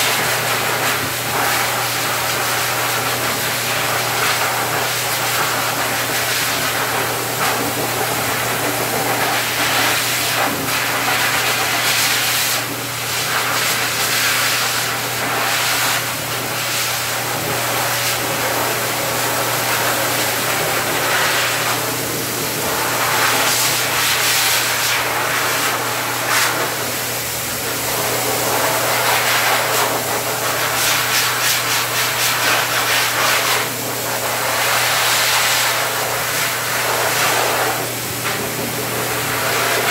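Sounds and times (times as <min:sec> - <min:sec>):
pet dryer blowing: 0:00.0 - 0:39.9.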